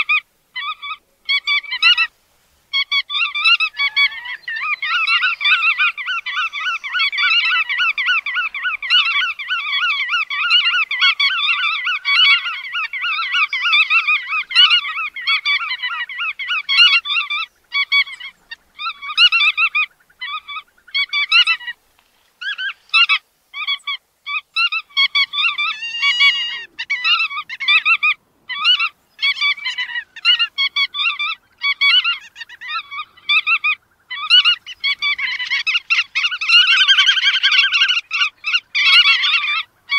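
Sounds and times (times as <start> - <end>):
godwits calling: 0.0 - 2.1, 2.7 - 21.8, 22.4 - 39.9.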